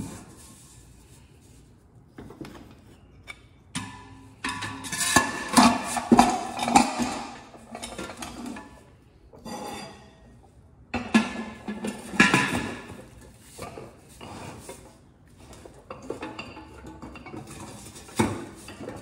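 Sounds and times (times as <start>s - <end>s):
metal clanks and scrapes: 2.2s - 10.4s, 11.0s - 19.0s.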